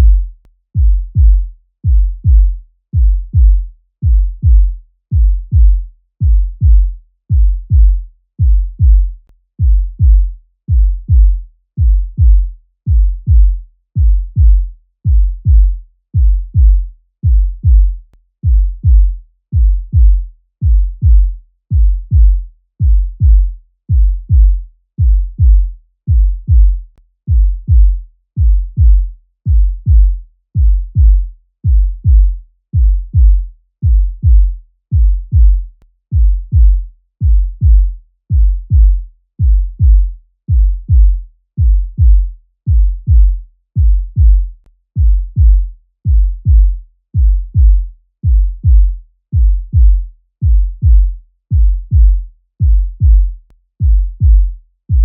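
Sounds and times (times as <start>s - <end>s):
heartbeat thumps: 0.0s - 55.0s.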